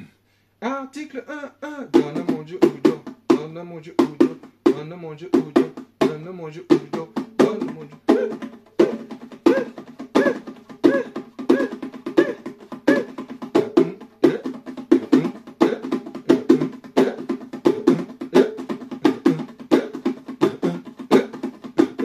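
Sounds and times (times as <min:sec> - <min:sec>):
bongos played by hand: 0:01.9 - 0:22.0.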